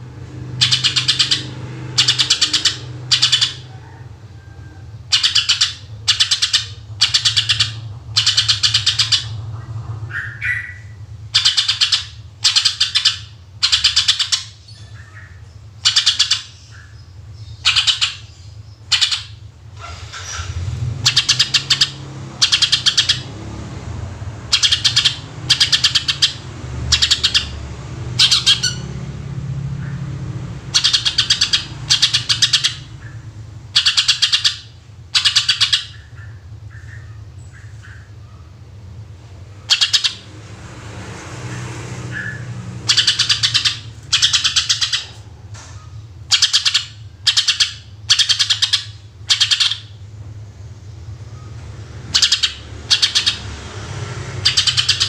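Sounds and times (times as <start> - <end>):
bird singing rapid repeated notes: 0.0 - 4.0, 4.9 - 55.0.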